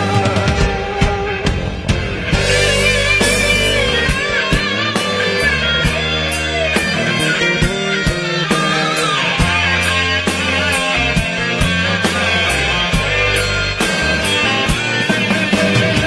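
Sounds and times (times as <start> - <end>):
bass guitar: 0.0 - 16.0
drums: 0.0 - 16.0
lead guitar melody: 0.0 - 16.0.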